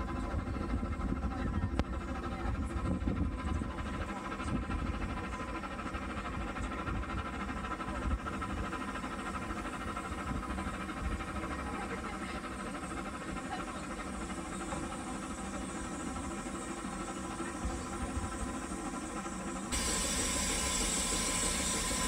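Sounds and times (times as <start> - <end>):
steam engine running: 0.0 - 22.0.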